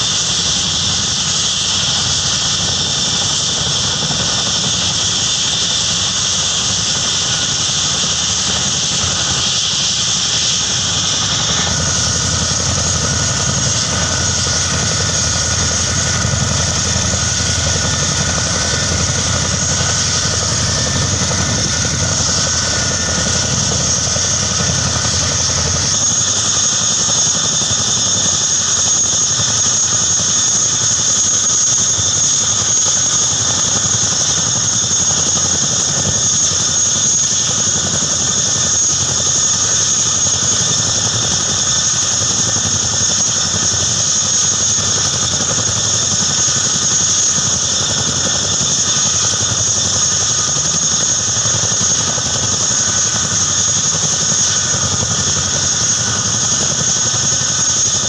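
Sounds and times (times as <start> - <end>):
helicopter rotor rumble: 0.0 - 58.0
helicopter turbine whine: 0.0 - 58.0.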